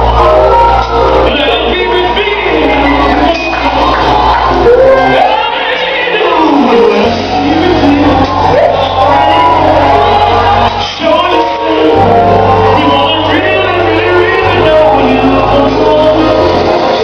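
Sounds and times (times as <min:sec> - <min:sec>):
bass line: 0:00.0 - 0:17.0
gospel singing: 0:00.0 - 0:17.0
lead vocal shouting: 0:01.2 - 0:17.0.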